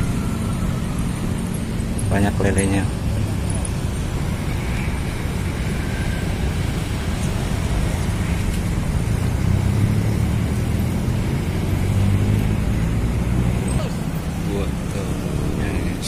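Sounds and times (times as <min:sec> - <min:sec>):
road traffic rumble: 0:00.0 - 0:16.0
vehicle engine: 0:00.0 - 0:16.0.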